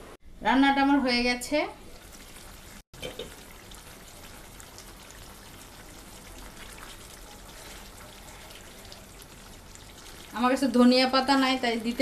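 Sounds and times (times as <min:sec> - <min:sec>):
curry bubbling and sizzling in a pan: 0:01.3 - 0:12.0.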